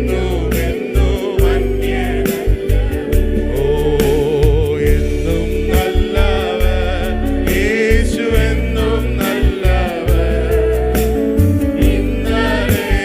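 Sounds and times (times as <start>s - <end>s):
band playing: 0.0s - 13.0s
steady drum beat: 0.0s - 13.0s
voices singing worship song: 0.0s - 13.0s.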